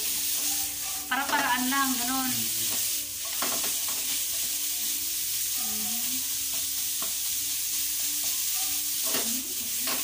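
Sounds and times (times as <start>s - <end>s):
meat and onions sizzling in wok: 0.0s - 10.0s
spatula stirring and scraping: 0.0s - 10.0s.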